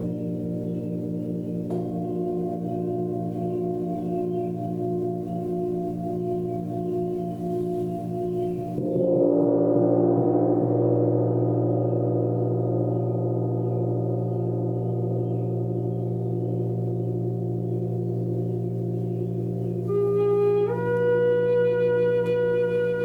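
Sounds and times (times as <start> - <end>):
low sustained tones: 0.0 - 23.0.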